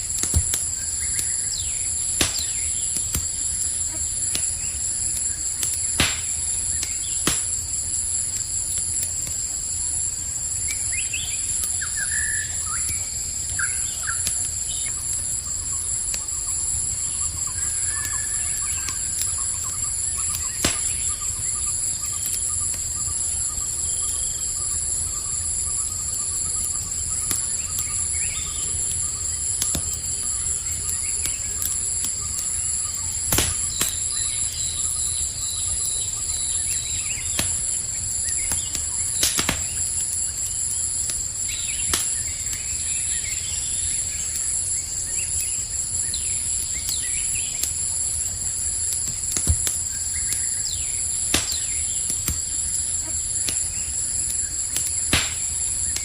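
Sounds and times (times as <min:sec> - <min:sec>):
campfire crackling: 0:00.0 - 0:56.0
crickets trilling: 0:00.0 - 0:56.0.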